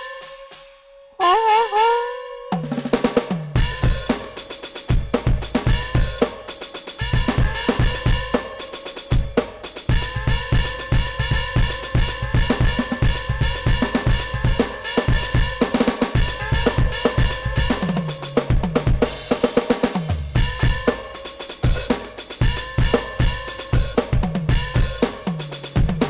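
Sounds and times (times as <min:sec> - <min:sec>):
cymbal crash: 0:00.0 - 0:26.0
electronic drum groove: 0:01.2 - 0:26.0.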